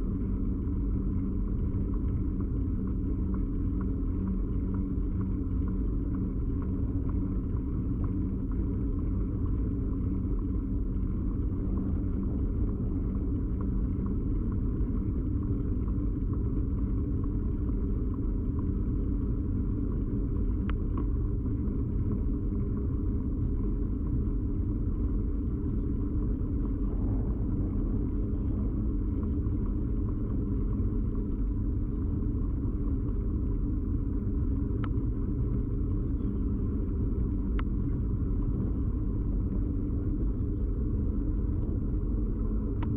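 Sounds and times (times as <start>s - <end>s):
bicycle road rumble: 0.0s - 42.9s.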